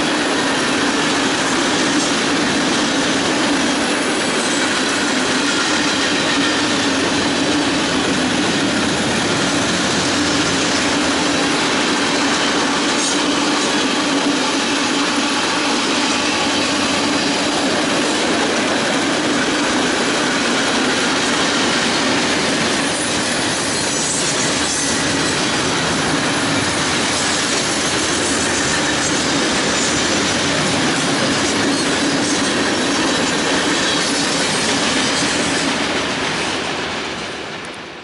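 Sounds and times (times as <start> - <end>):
freight train wheels clattering: 0.0 - 38.0.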